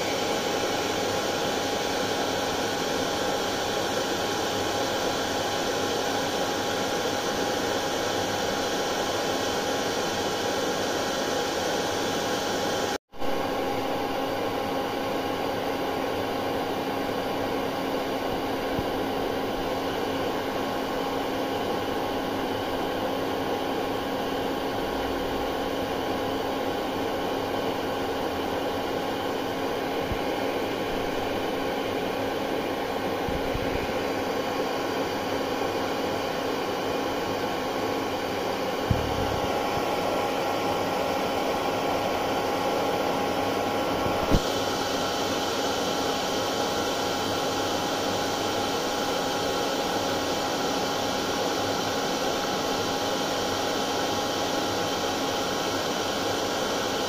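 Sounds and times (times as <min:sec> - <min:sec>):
hair dryer blowing: 0:00.0 - 0:57.0.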